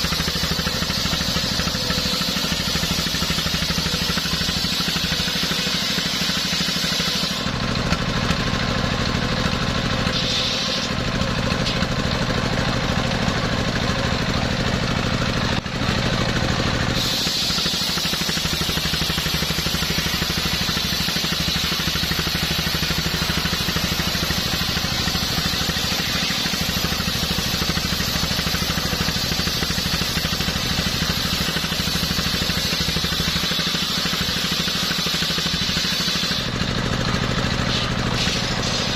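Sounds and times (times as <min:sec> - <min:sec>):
circular saw cutting log: 0:00.0 - 0:38.9
diesel engine running: 0:00.0 - 0:38.9.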